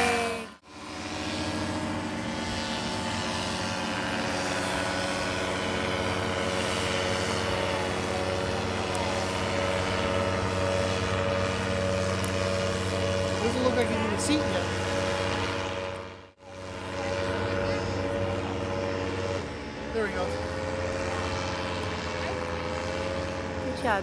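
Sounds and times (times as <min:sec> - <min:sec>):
paramotor engine droning: 0:00.0 - 0:24.0.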